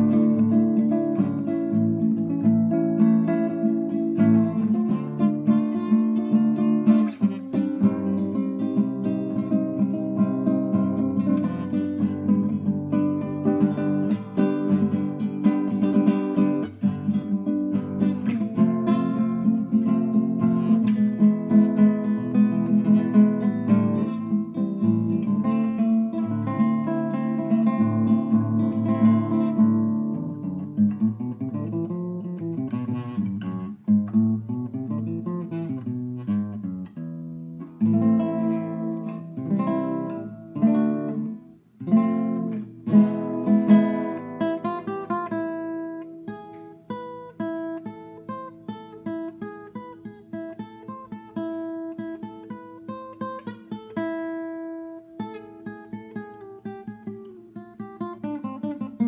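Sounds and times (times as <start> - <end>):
classical guitar playing: 0.0 - 59.0.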